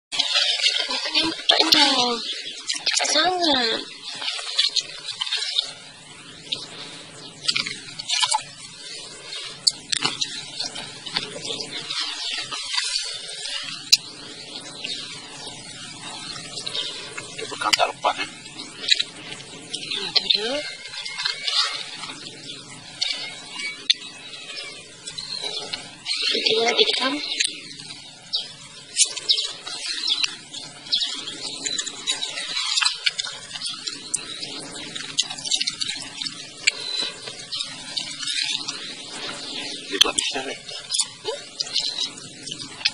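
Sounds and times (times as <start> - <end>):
wet mud squelching and crackling: 0.1 - 42.9.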